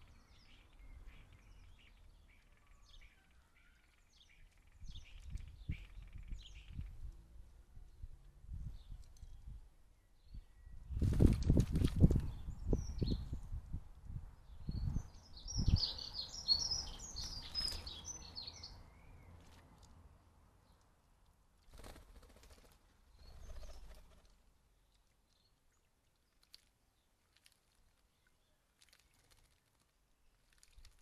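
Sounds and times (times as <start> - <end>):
small birds chirping: 0.0 - 7.1, 7.9 - 13.7, 14.4 - 20.0, 21.8 - 31.0.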